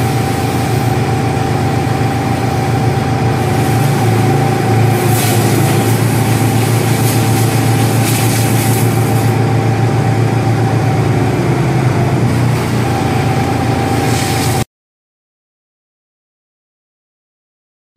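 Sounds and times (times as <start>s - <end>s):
engine running with hum: 0.0s - 14.7s.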